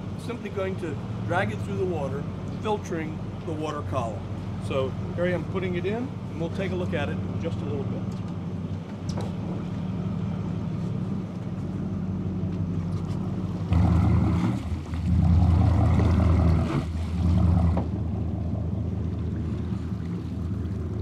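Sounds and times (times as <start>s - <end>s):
boat motor running: 0.0s - 21.0s
water rushing along hull: 0.0s - 21.0s.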